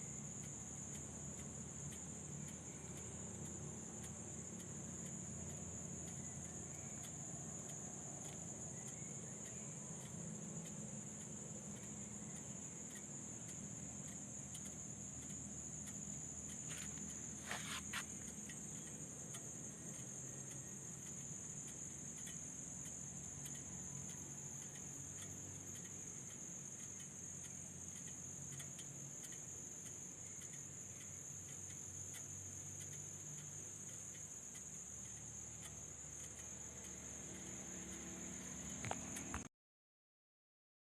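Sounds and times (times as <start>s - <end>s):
insects chirring: 0.0s - 39.5s.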